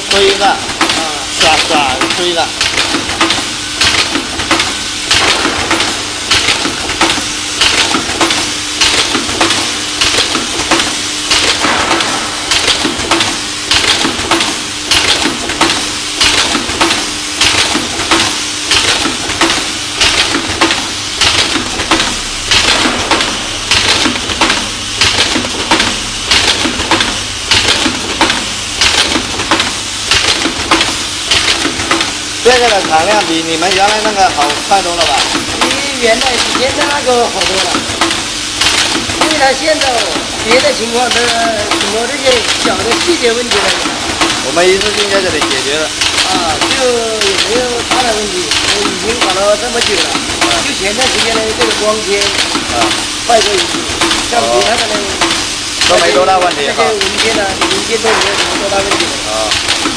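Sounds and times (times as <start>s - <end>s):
steady low hum: 0.0s - 59.9s
machine metallic clicks and clatter: 0.1s - 59.9s.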